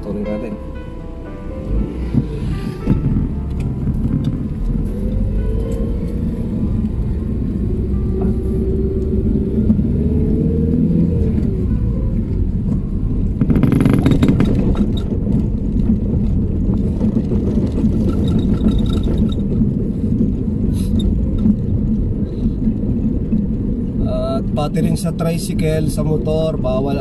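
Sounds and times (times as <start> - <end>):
rushing noise: 0.0 - 24.0
road and engine rumble in car: 0.0 - 27.0.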